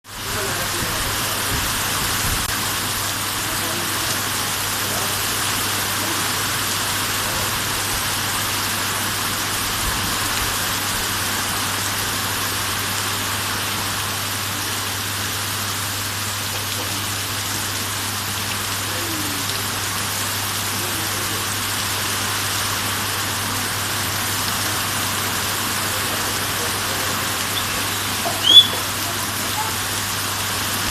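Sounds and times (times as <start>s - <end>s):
rain falling: 0.0s - 30.9s.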